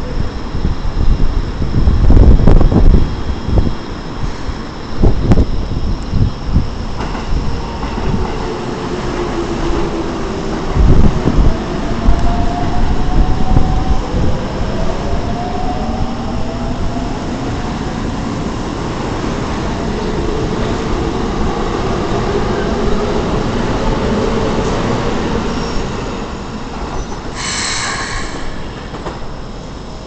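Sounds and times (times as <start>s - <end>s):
wheel and rail noise: 4.0s - 30.0s.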